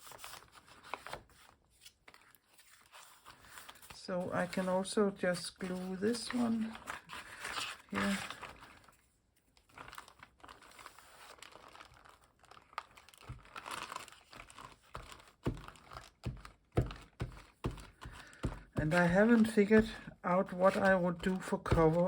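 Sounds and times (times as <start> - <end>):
paper rustling and crinkling: 0.0 - 22.0.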